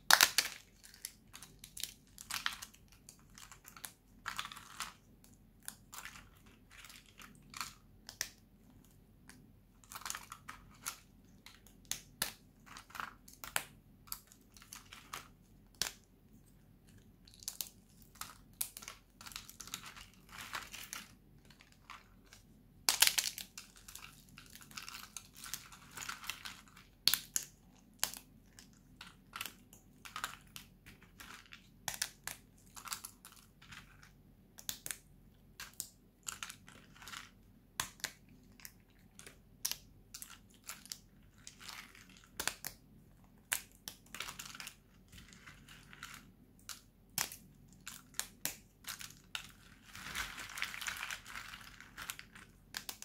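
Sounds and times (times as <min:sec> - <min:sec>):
brittle soap crunching: 0:00.0 - 0:16.1, 0:16.8 - 0:35.0, 0:35.6 - 0:42.8, 0:43.4 - 0:53.0.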